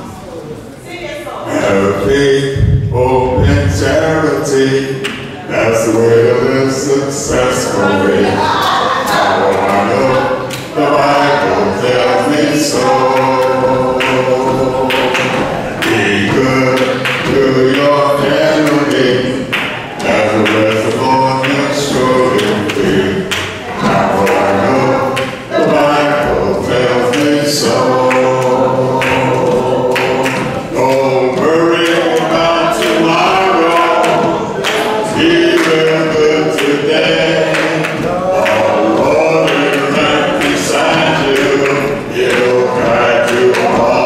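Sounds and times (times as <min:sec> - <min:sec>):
group singing a hymn: 0:00.0 - 0:44.0
sharp beats: 0:01.5 - 0:44.0.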